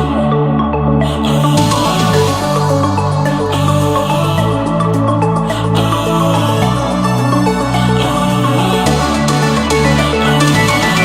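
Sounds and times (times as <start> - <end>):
electronic pop music: 0.0 - 11.0
repeating bass line: 0.0 - 11.0
sustained synth notes: 0.0 - 11.0.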